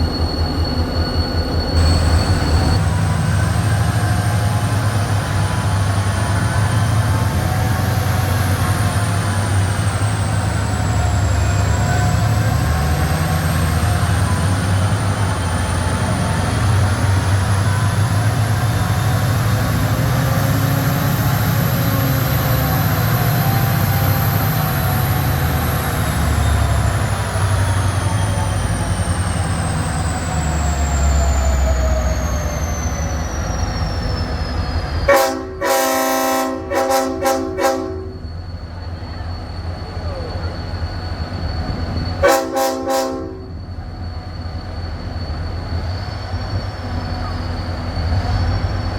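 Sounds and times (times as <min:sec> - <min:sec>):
diesel locomotive engine rumbling: 0:00.0 - 0:48.9.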